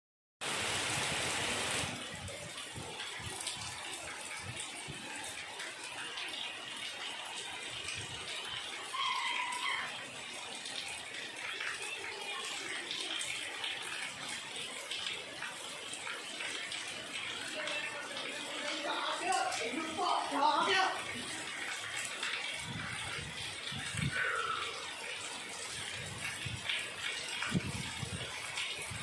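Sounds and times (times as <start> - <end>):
heavy rain falling: 0.4 - 29.0.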